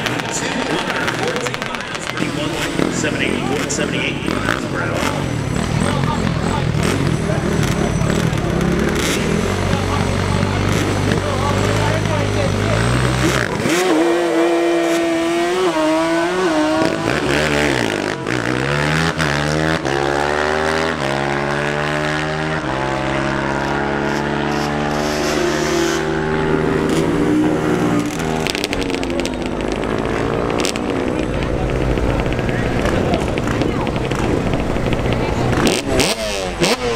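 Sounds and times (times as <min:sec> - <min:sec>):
atv engine at full throttle: 0:00.0 - 0:36.9.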